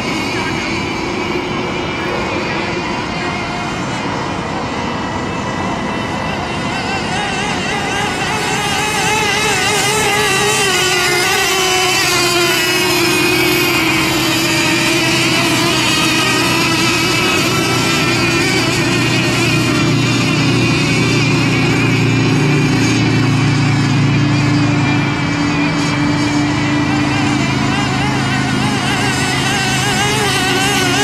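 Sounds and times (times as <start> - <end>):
model boat motors whining: 0.0 - 31.0.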